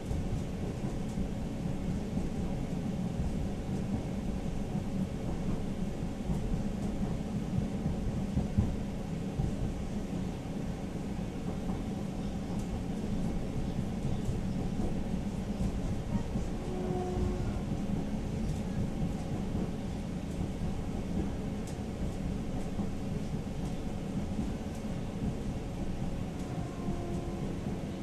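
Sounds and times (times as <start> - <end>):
tram wheels rumbling on rails: 0.0 - 28.0.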